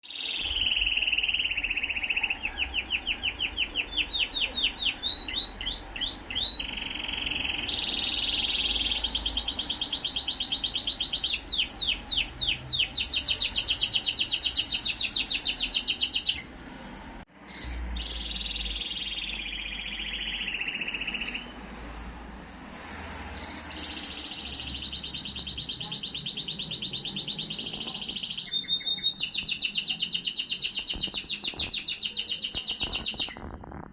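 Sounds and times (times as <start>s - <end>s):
canary singing trills: 0.0s - 16.5s, 17.4s - 21.6s, 23.3s - 33.9s.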